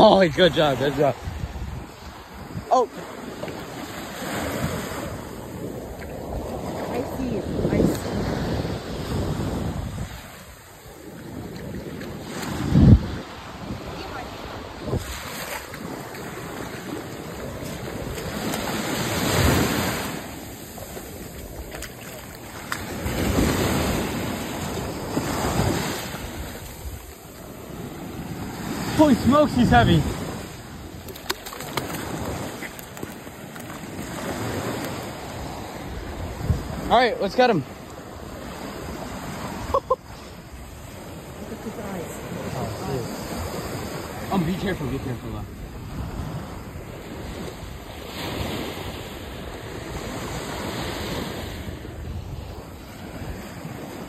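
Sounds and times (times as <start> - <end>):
wind buffeting microphone: 0.0 - 37.3, 40.3 - 54.0
surf washing on beach: 0.0 - 54.0.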